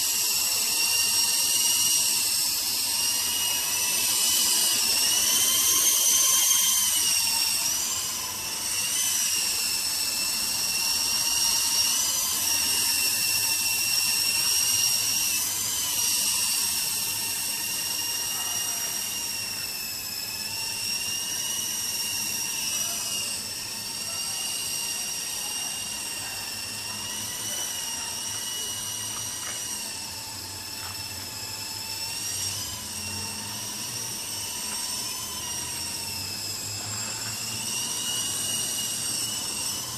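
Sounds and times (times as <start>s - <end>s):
toy helicopter rotors whining: 0.0s - 39.9s.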